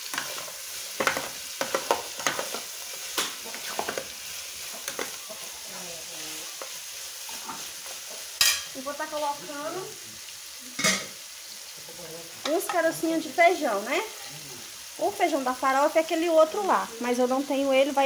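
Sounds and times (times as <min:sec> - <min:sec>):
food sizzling in fat: 0:00.0 - 0:18.0.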